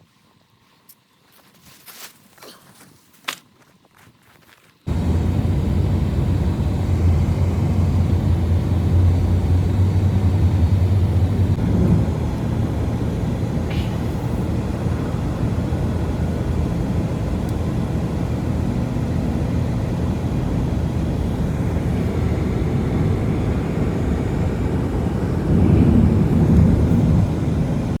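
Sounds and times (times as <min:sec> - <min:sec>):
strong blizzard wind: 0:04.9 - 0:28.0.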